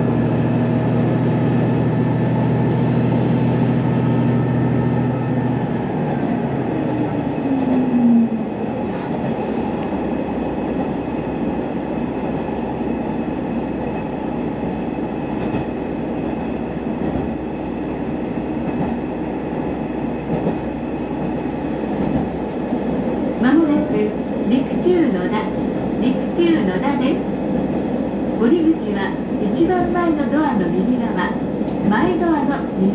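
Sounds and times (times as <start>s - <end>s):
train wheels and engine rumbling: 0.0s - 32.9s.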